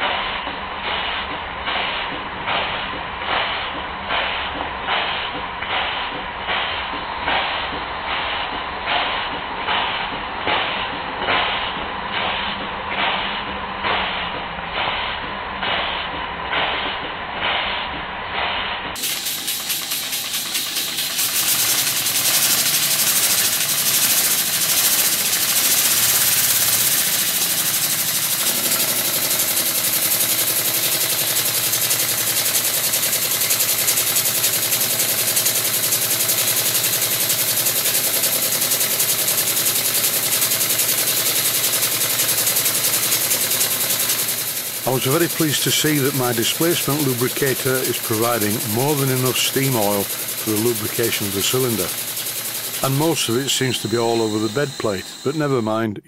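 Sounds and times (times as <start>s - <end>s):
steam engine puffing: 0.0s - 56.0s
steam hissing: 0.0s - 56.0s.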